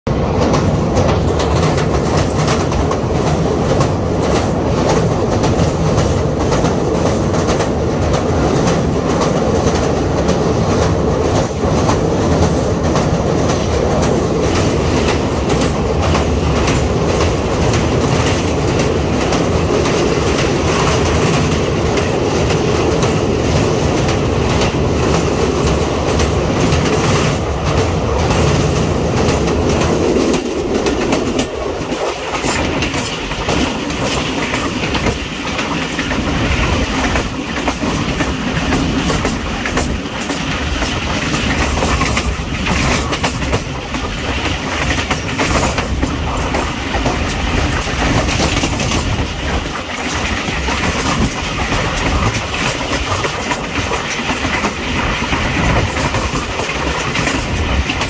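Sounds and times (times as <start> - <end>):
train wheels rumbling on rails: 0.1 - 58.0.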